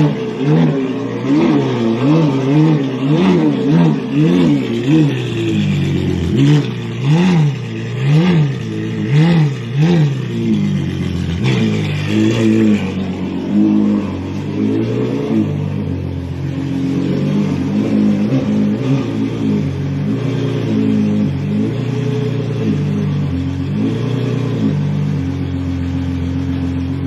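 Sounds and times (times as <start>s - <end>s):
sports car engine throttle blips: 0.0s - 27.0s.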